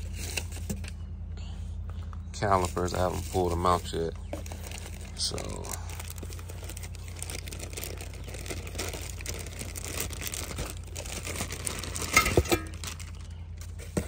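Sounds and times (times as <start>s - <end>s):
plastic bag crinkling: 2.5s - 13.9s.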